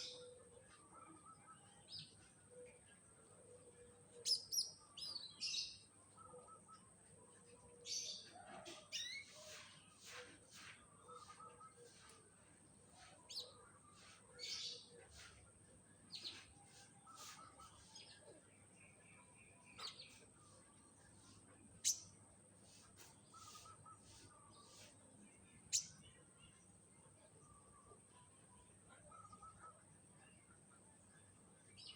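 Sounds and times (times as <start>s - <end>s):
songbird chirping: 0.0s - 31.9s.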